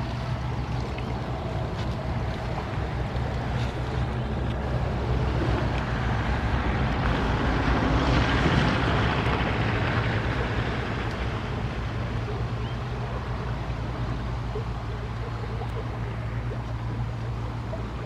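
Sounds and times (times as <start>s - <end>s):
low engine hum: 0.0s - 18.0s
water sloshing around a net: 0.0s - 18.0s.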